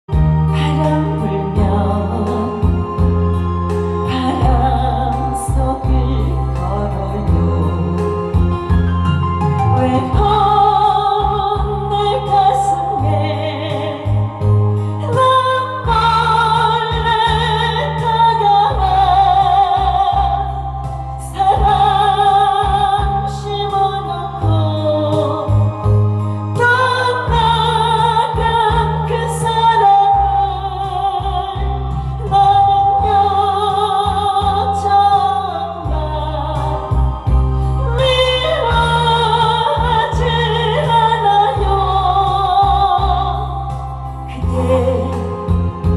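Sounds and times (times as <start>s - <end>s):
backing track with bass line: 0.0s - 45.9s
woman singing a slow ballad: 0.1s - 45.9s.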